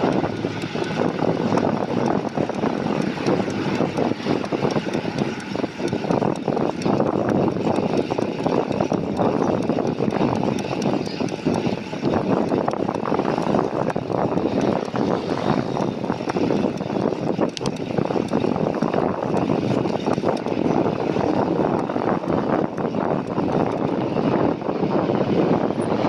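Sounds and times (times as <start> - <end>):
city traffic hum: 0.0 - 26.0
wind rushing on microphone: 0.0 - 26.0.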